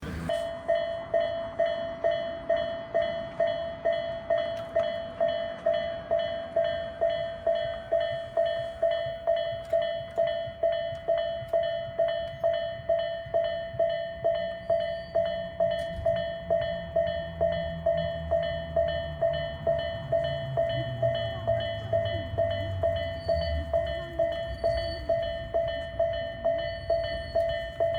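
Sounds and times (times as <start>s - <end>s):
low rumble of approaching train: 0.0s - 27.9s
railroad crossing bell ringing: 0.0s - 27.9s.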